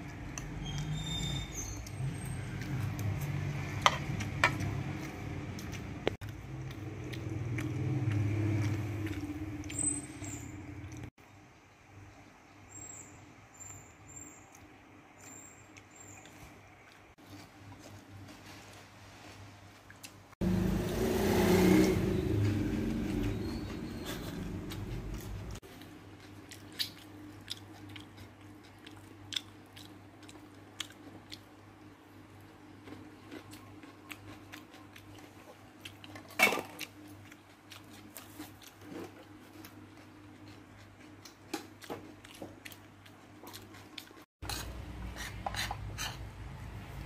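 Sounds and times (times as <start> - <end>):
person chewing food: 1.7 - 11.2, 14.4 - 18.9, 22.5 - 46.4.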